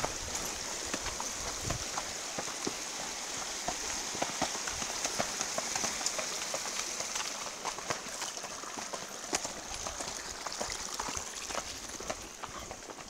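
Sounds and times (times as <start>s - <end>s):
hooves on gravel and rock: 0.0s - 13.0s.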